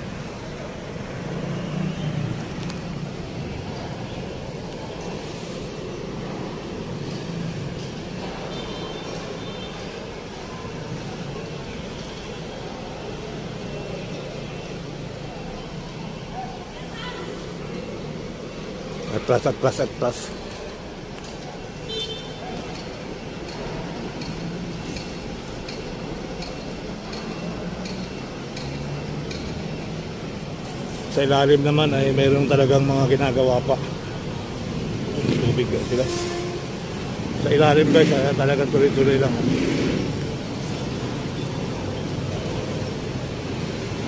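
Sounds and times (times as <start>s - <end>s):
road traffic noise: 0.0s - 44.0s
vehicle engines idling and running: 0.0s - 44.0s.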